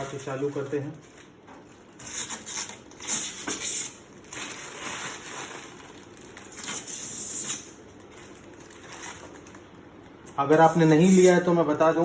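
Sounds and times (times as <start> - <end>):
plastic wrapping rustling: 0.0 - 11.8.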